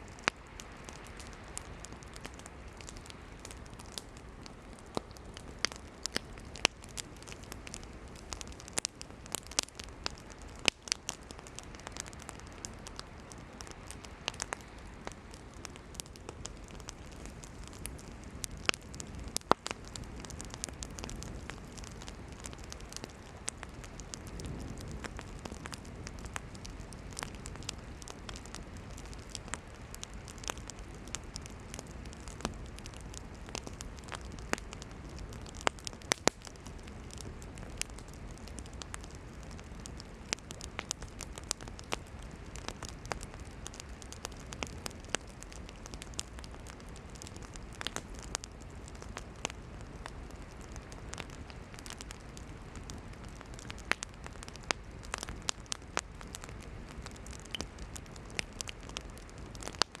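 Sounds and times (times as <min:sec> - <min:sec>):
campfire crackling: 0:00.0 - 1:00.0.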